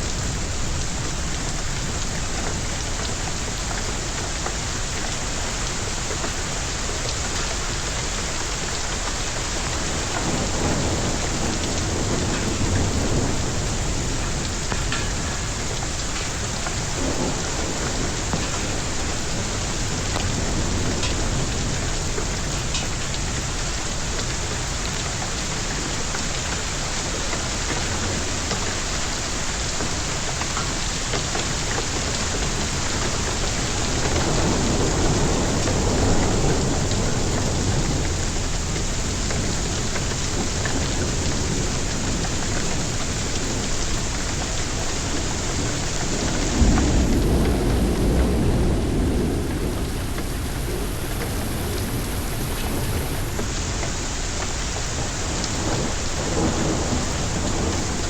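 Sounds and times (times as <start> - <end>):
low thunder rumble: 0.0 - 29.5, 31.4 - 58.0
heavy rain and hail: 0.0 - 58.0.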